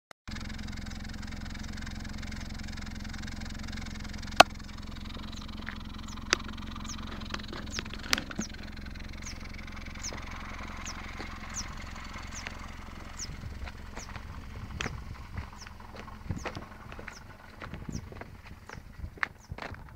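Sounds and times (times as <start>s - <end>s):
car engine humming: 0.3s - 19.9s.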